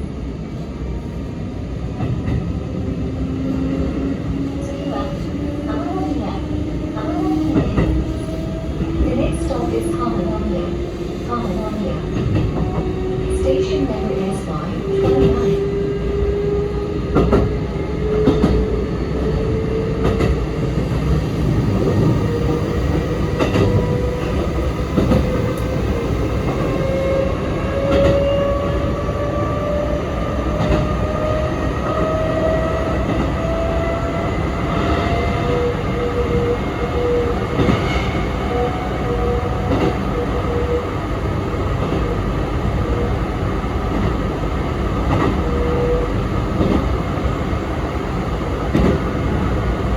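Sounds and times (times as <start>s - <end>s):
train running rumble: 1.9s - 49.9s.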